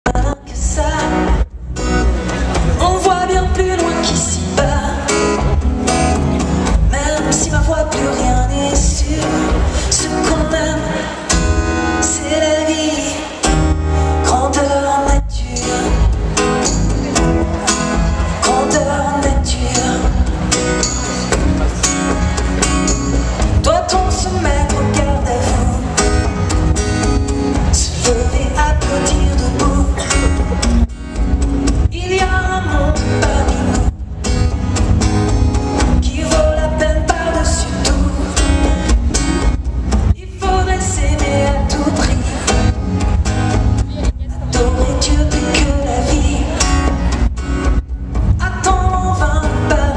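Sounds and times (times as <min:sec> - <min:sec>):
guitars strummed and picked: 0:00.0 - 0:49.9
person singing: 0:00.0 - 0:49.9.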